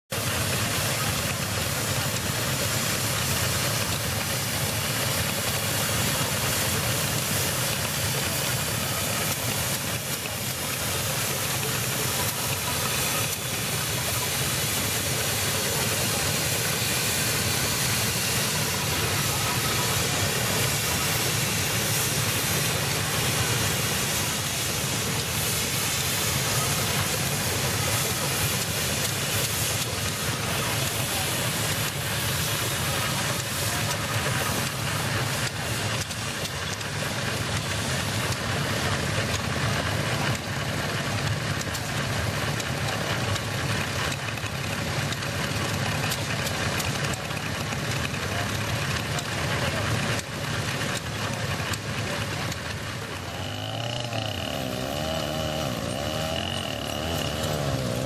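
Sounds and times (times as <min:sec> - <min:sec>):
steam engine hissing: 0:00.0 - 0:58.0.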